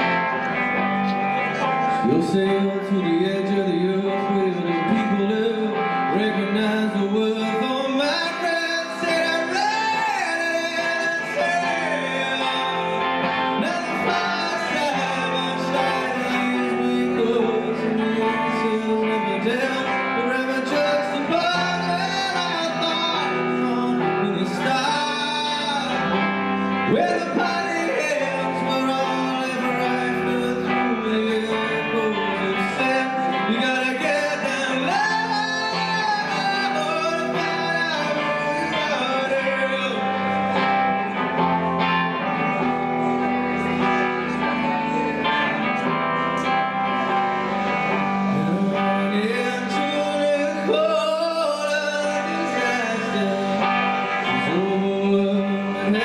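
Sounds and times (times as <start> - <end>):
guitar accompaniment: 0.0 - 56.0
man singing rock song: 0.0 - 56.0.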